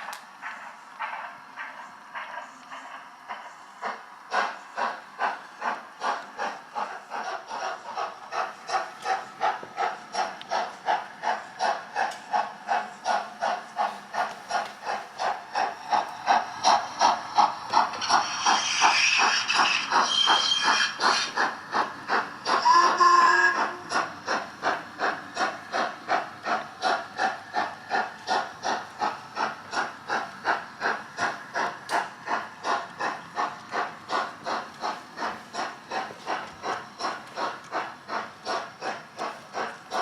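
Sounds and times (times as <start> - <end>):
steam hiss: 0.0 - 40.0
steam locomotive exhaust chuffs: 0.0 - 40.0.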